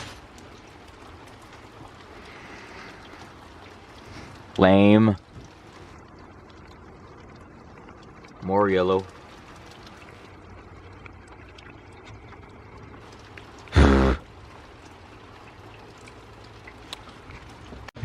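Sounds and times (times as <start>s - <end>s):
rain trickling and dripping: 0.0s - 18.0s.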